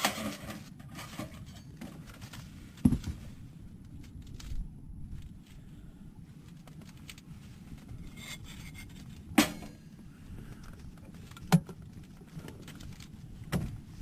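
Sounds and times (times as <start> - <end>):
steady low rumble: 1.6 - 14.0.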